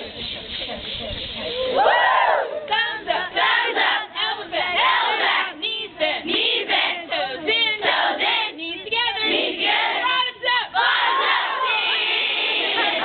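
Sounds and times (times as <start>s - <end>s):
voices singing and shouting: 1.7s - 13.0s.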